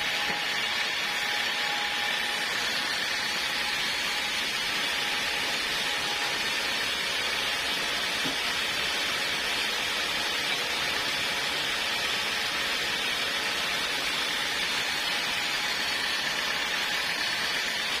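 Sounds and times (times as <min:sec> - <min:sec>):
sawmill running: 0:00.0 - 0:18.0.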